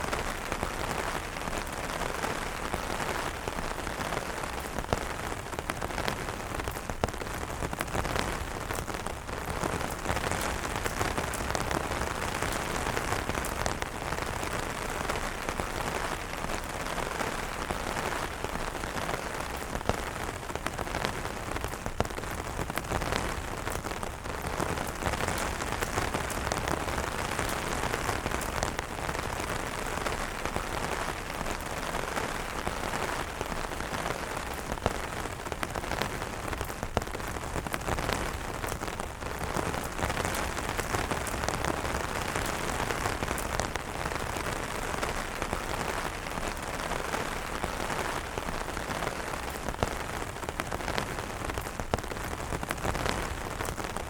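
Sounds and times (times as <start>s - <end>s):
rain falling on umbrellas: 0.0s - 54.0s.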